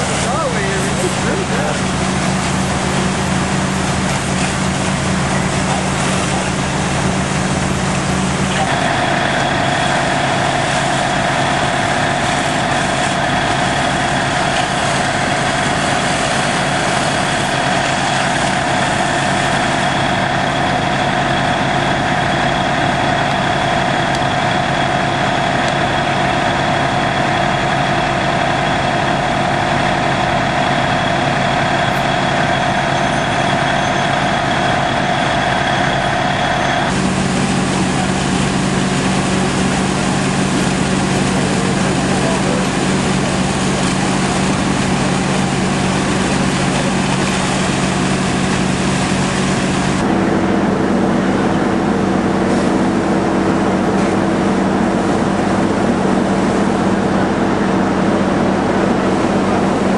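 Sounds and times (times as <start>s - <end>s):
fire engine motor running: 0.0s - 59.9s
pump whine: 0.0s - 59.9s.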